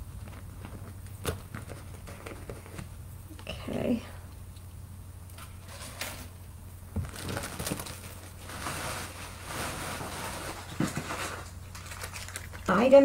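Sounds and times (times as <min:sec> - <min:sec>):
rustling and handling noises: 0:00.0 - 0:03.6, 0:05.3 - 0:13.0
low steady hum: 0:00.0 - 0:13.0.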